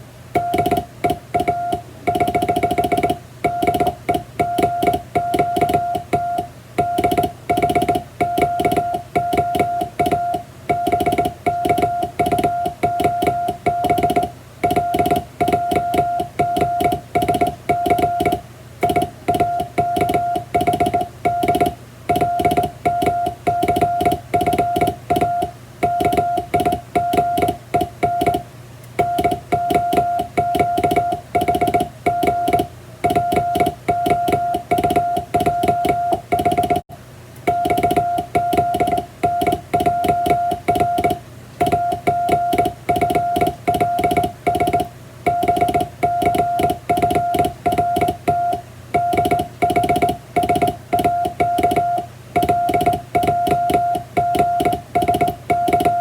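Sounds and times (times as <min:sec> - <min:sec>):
morse code sidetone beeping: 0:00.4 - 0:28.4, 0:29.0 - 0:36.8, 0:37.5 - 0:56.0.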